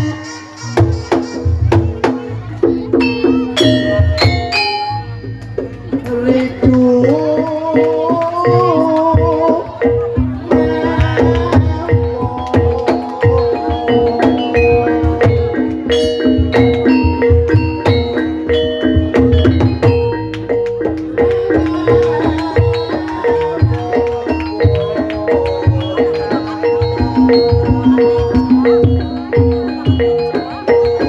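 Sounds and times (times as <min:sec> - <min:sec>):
low hand-drum beats: 0:00.0 - 0:31.0
struck mallet instruments melody: 0:00.0 - 0:31.0.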